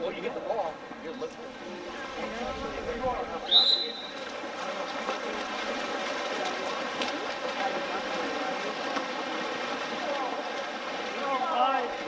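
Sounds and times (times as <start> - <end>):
faint voices: 0.0 - 12.0
water splashing and churning: 0.0 - 12.0.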